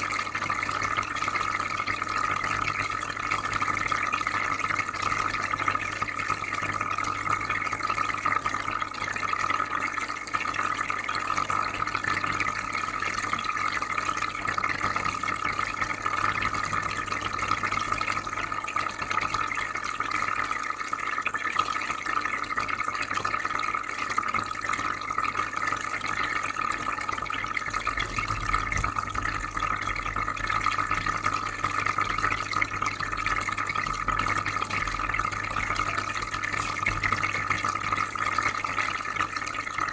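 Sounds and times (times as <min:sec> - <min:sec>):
aquarium filter hum: 0:00.0 - 0:39.9
bubbling and trickling water: 0:00.0 - 0:39.9.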